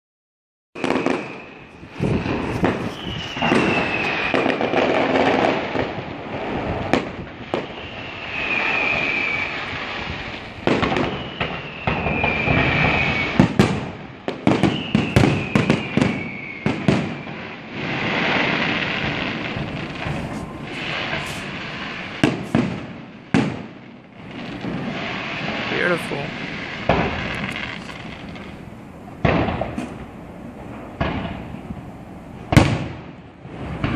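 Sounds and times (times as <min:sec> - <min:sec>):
firework whistles: 0:00.8 - 0:28.6
firework bangs and crackling: 0:00.8 - 0:33.9.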